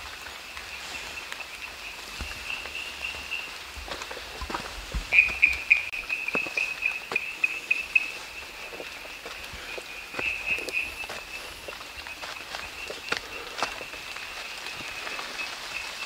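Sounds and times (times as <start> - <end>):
footsteps crunching on trail: 0.0 - 16.0.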